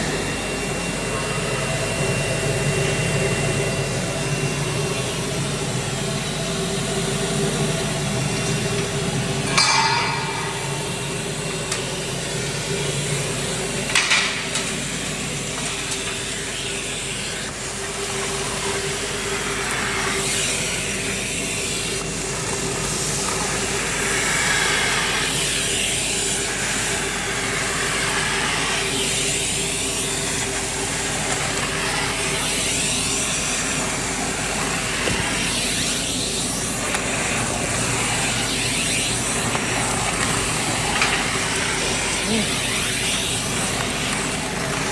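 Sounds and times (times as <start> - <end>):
industrial vacuum cleaner running: 0.0 - 44.9.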